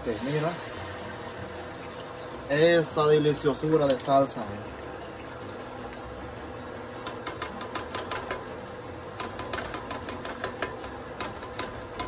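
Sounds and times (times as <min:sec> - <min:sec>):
sauce popping in hot pan: 0:00.8 - 0:12.0.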